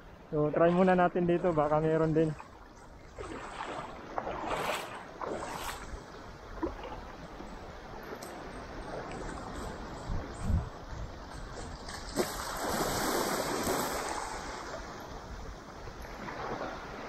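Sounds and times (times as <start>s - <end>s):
seawater lapping over reef: 0.0s - 17.0s
wind on microphone: 2.8s - 17.0s.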